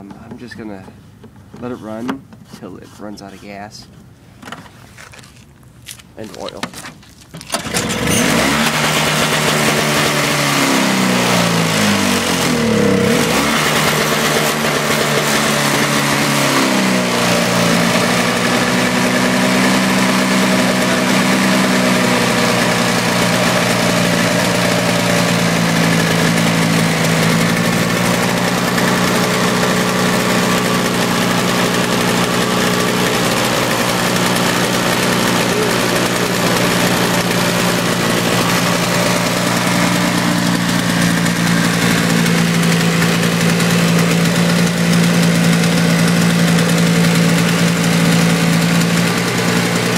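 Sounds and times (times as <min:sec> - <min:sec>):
snowblower engine running: 0:07.5 - 0:49.9.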